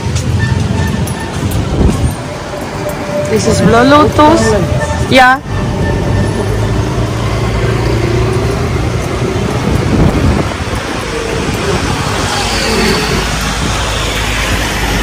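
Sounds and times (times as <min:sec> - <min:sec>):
road and traffic noise: 0:00.0 - 0:15.0.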